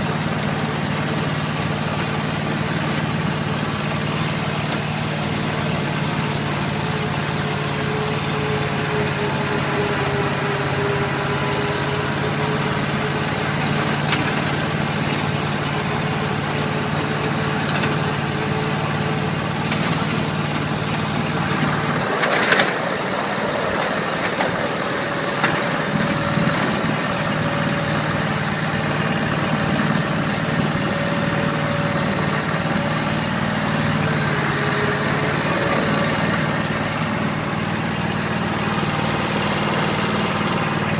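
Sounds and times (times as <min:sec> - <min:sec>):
tractor engine humming: 0:00.0 - 0:40.9.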